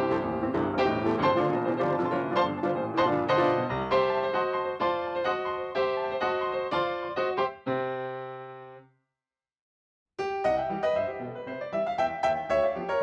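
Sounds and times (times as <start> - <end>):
piano music: 0.0 - 8.8, 10.2 - 13.0.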